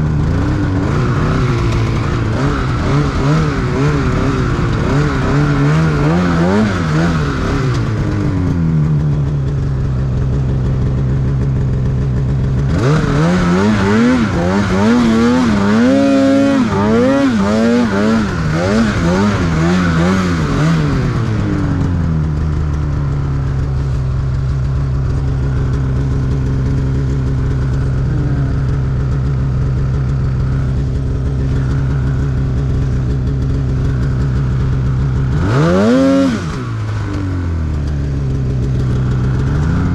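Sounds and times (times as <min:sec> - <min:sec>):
snowmobile engine revving: 0:00.0 - 0:22.8, 0:23.5 - 0:39.9.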